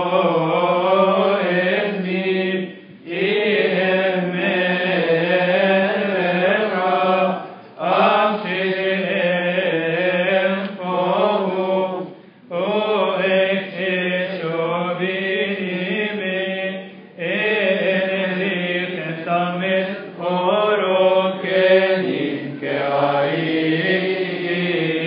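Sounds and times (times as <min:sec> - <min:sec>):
voices chanting: 0:00.0 - 0:25.0.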